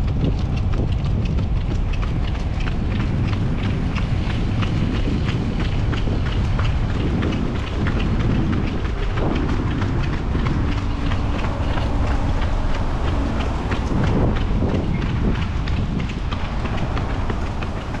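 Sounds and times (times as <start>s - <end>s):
running footsteps on pavement: 0.0s - 18.0s
wind on microphone: 0.0s - 18.0s.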